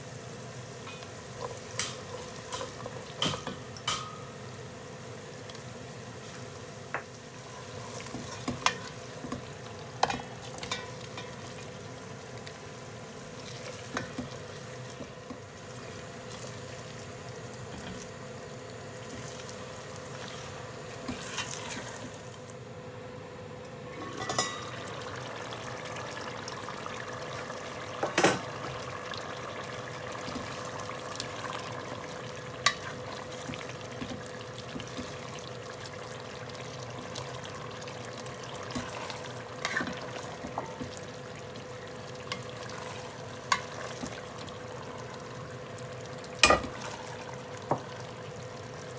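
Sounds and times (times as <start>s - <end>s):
food sizzling in pot: 0.0s - 22.4s, 23.8s - 48.9s.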